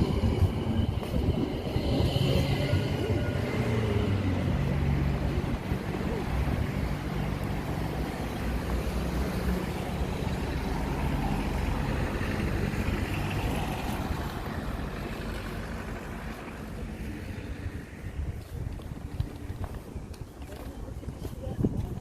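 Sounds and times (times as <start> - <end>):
tram rumble and drone: 0.0 - 22.0.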